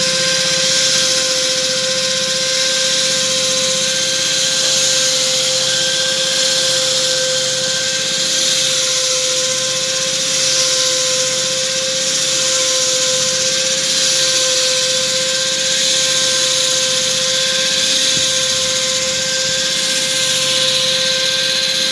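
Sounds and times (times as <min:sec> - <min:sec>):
core drill whining into concrete: 0:00.0 - 0:21.9.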